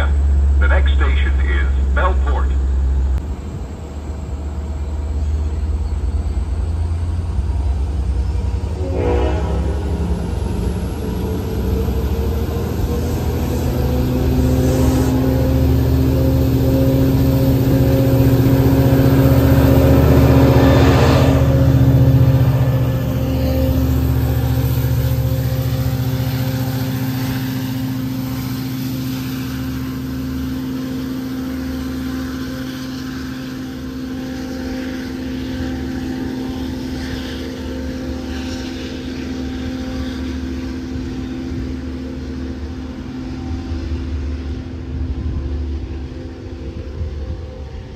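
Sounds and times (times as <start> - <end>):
diesel locomotive engine drone: 0.0 - 47.9
train wheels rumbling on rails: 0.0 - 47.9.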